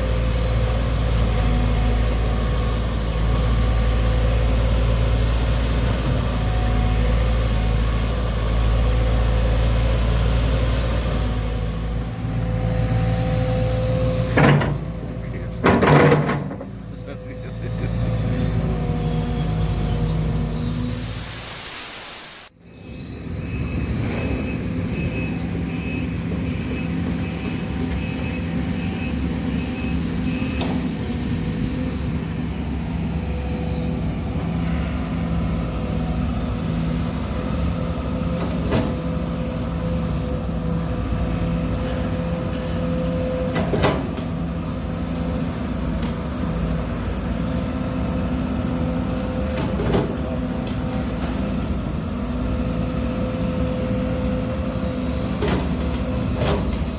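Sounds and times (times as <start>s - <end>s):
excavator diesel engine running: 0.0s - 21.3s, 22.5s - 56.9s.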